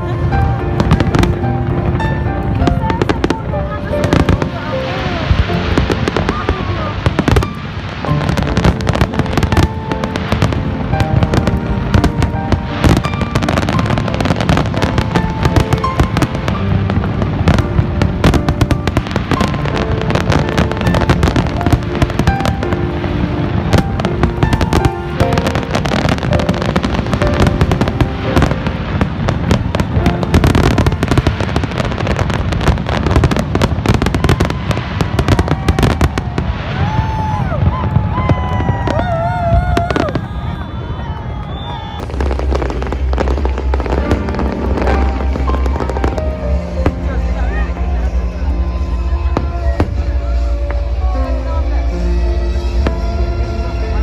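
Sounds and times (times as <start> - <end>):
fireworks bangs and crackles: 0.0 - 54.0
low rumble: 0.0 - 54.0
music playing: 0.0 - 54.0.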